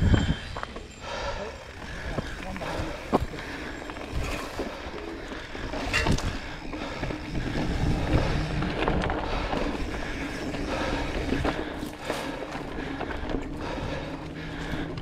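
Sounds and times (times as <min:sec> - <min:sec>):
bike rattling over bumps: 0:00.0 - 0:15.0
bike tyres on loose dirt: 0:00.0 - 0:15.0.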